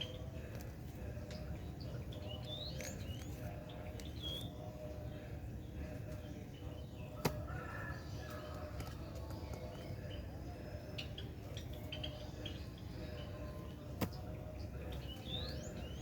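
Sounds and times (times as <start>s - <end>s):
faint high bird chirps: 0.0s - 0.4s, 1.2s - 5.1s, 6.4s - 16.0s.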